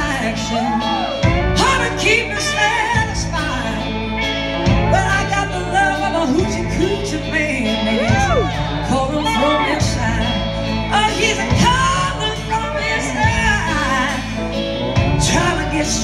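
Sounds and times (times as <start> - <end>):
blues-rock band playing: 0.0 - 16.0
person singing: 0.0 - 16.0.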